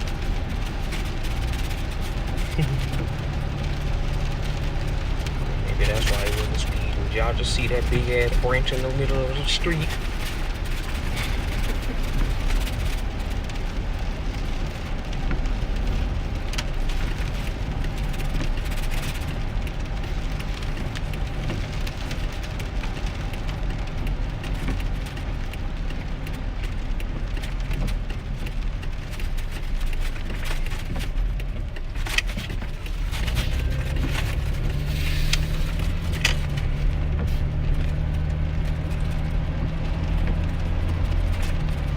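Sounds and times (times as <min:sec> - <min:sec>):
engine and road drone: 0:00.0 - 0:41.9
hiss of wet road and rain: 0:00.0 - 0:41.9.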